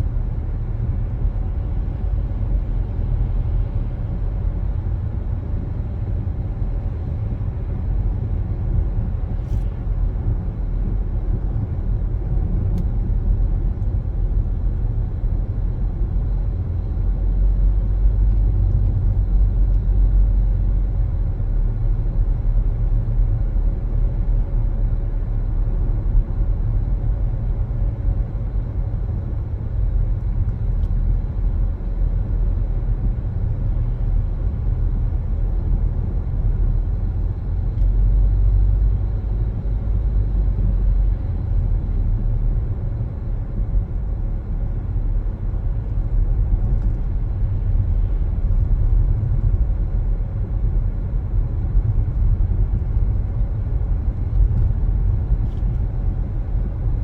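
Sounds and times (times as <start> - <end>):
car driving road and engine noise: 0.0 - 57.0.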